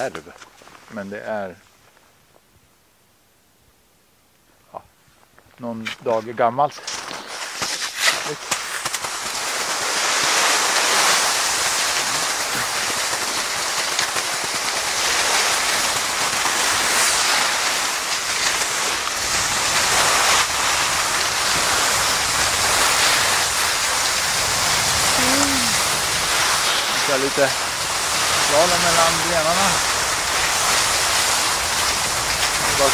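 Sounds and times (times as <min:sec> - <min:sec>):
skis scraping over crusted snow: 0:05.6 - 0:32.9.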